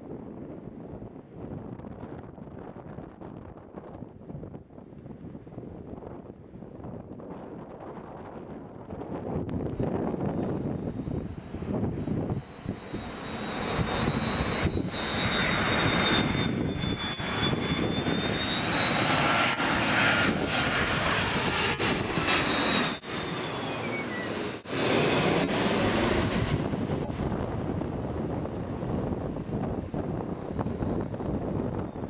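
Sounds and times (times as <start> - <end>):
jet engines roaring overhead: 0.0 - 32.0
jet whine gliding down: 0.0 - 32.0.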